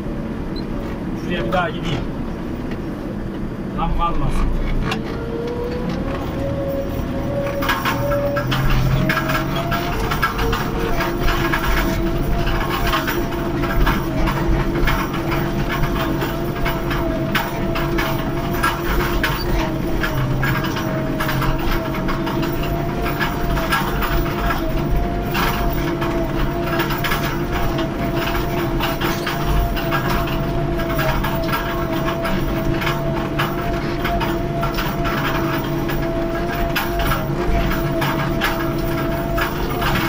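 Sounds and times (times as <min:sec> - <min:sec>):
tractor diesel engine running: 0:00.0 - 0:40.0
constant rattling: 0:00.8 - 0:40.0.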